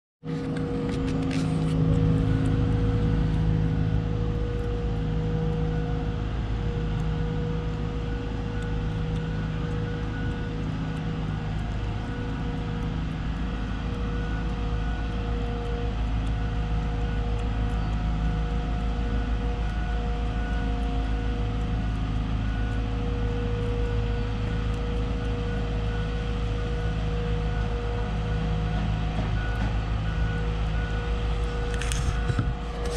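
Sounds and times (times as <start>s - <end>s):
crane engine running: 0.2s - 32.9s.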